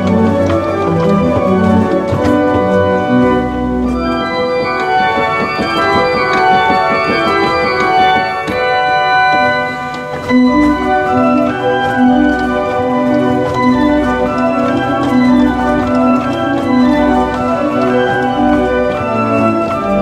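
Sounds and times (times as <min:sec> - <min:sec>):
pipe organ playing: 0:00.0 - 0:20.0.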